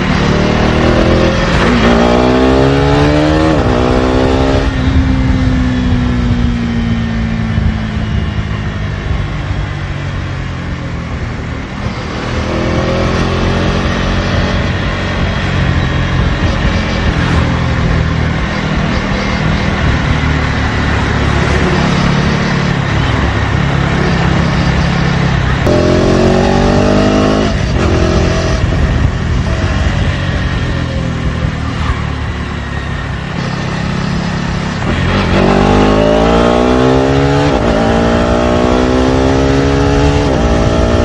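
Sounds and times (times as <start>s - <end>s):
motorcycle engine accelerating: 0.0s - 41.0s
wind and road noise: 0.0s - 41.0s.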